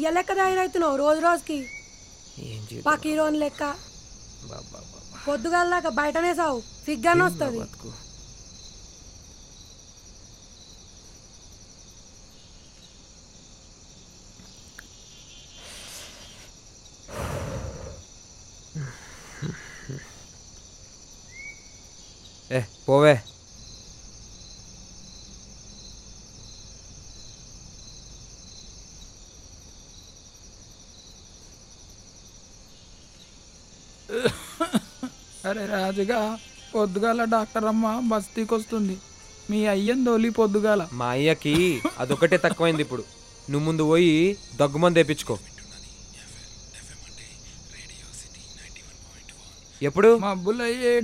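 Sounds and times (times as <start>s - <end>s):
crickets chirping: 0.0s - 51.0s.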